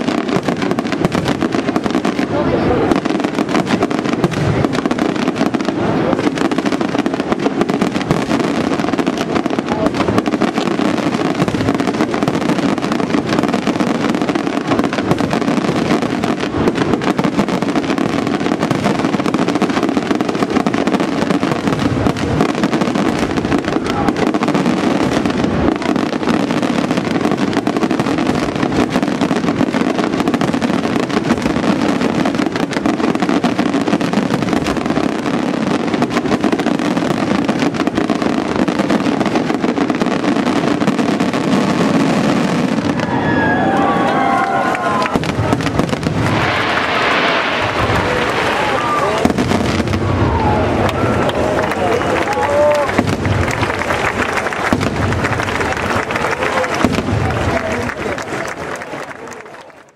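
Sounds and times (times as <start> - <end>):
fireworks barrage rumble: 0.0 - 59.9.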